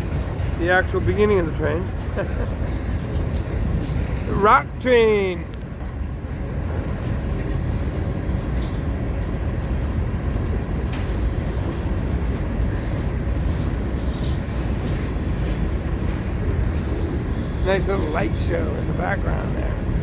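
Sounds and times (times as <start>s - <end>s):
freight train wheels rumbling: 0.0s - 20.0s
wheels clicking on rails: 0.0s - 20.0s.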